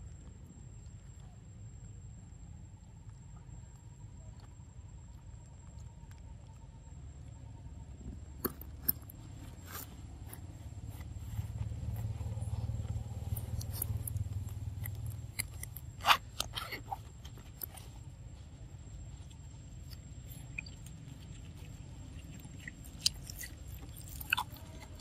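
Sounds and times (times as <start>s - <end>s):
low steady rumble: 0.0s - 25.0s
monkey chewing food: 2.8s - 25.0s.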